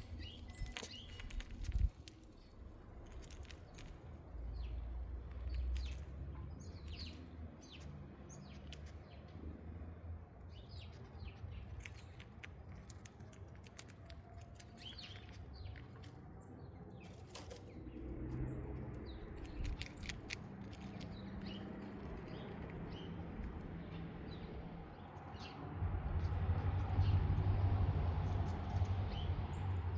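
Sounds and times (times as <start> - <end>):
steady low rumble: 0.0 - 14.2, 14.9 - 29.9
small birds chirping: 0.0 - 27.4.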